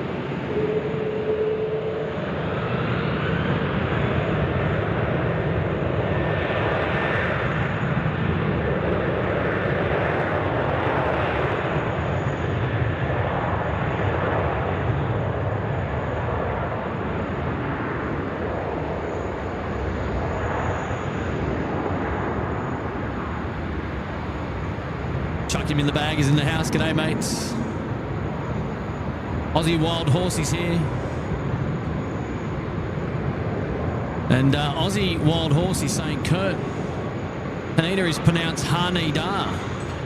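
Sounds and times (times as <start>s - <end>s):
jet airliner engines at takeoff: 0.0s - 40.0s.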